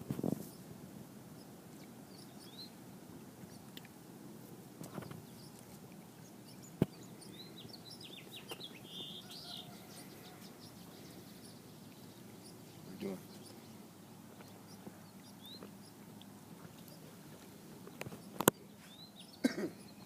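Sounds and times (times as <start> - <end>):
outdoor background noise: 0.0 - 20.0
small birds chirping: 0.2 - 20.0.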